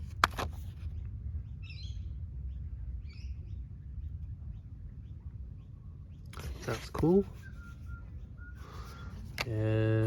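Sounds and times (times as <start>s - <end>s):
low steady hum: 0.0s - 10.0s
bird chirps: 0.8s - 9.2s.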